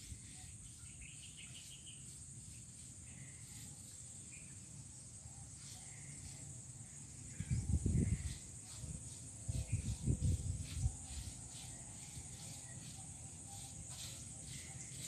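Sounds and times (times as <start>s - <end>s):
high-pitched insect drone: 0.0s - 15.0s
short insect chirps: 0.0s - 15.0s.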